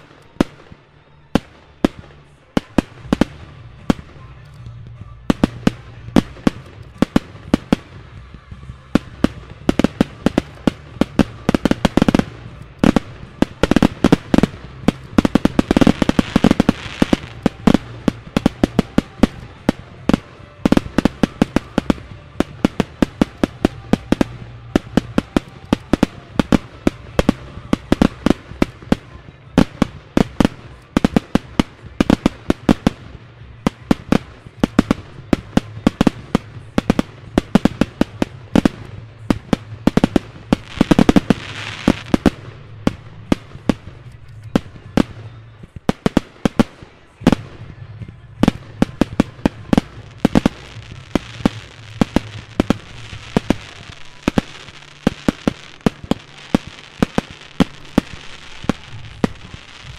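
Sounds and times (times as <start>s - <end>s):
fireworks banging: 0.0s - 59.9s.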